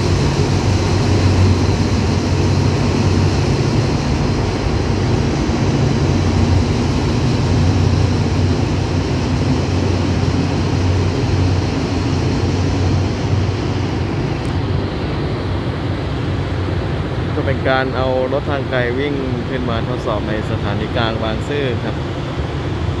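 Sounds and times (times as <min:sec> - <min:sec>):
locomotive engine droning: 0:00.0 - 0:23.0.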